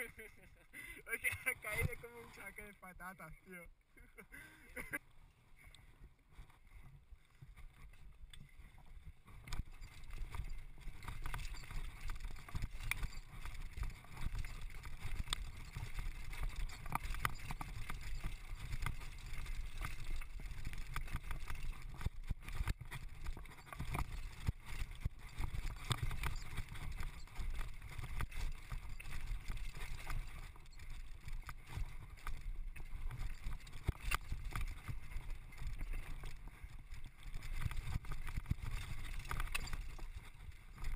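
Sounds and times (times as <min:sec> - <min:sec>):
mountain bike rattling over rocks: 0:00.0 - 0:02.7, 0:06.0 - 0:40.9.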